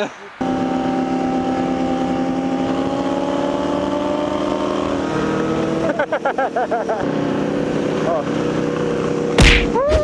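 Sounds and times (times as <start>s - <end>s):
motorcycle engine running: 0.4s - 9.9s.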